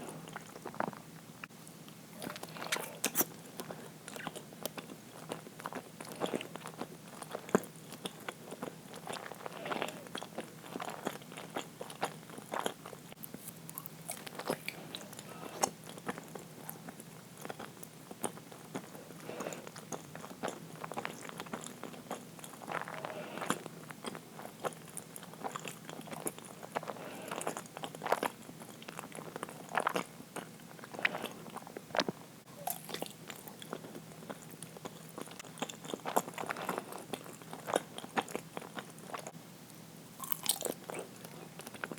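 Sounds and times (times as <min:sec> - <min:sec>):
chewing with mouth clicks: 0:01.8 - 0:39.4, 0:40.2 - 0:41.9.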